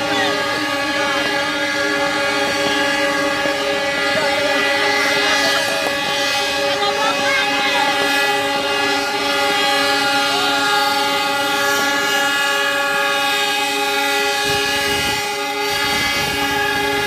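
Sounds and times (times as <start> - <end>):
locomotive air horn chord: 0.0 - 17.0.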